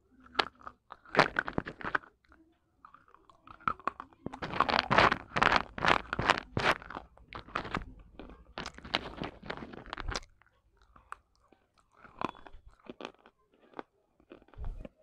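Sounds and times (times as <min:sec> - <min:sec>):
clay pot pieces crunched and chewed: 0:00.1 - 0:15.0.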